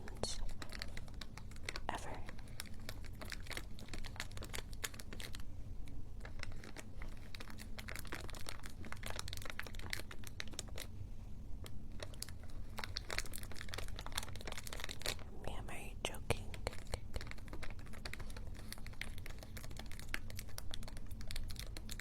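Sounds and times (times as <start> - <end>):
close-up crinkling: 0.0 - 22.0
low steady hum: 0.0 - 22.0.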